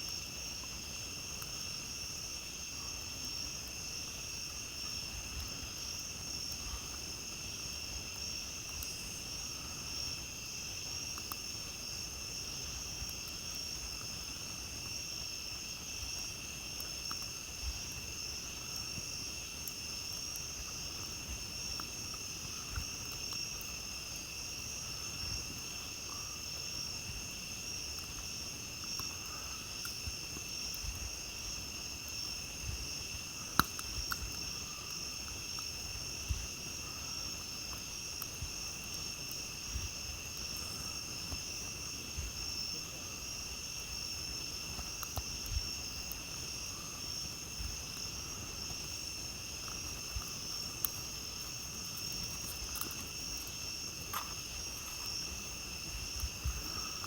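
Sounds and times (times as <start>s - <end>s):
campfire crackles: 0.0s - 57.0s
crickets and insects trilling: 0.0s - 57.0s
campfire pop: 9.9s - 57.0s.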